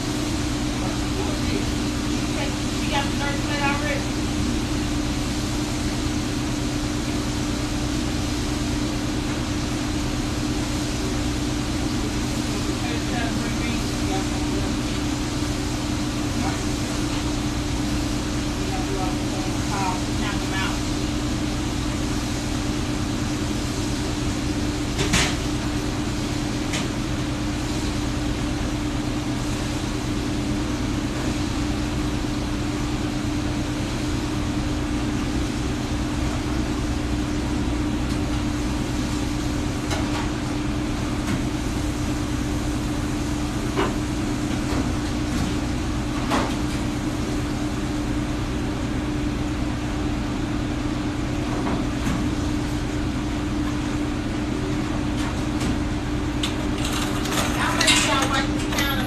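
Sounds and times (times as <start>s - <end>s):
kitchen equipment humming: 0.0s - 59.0s.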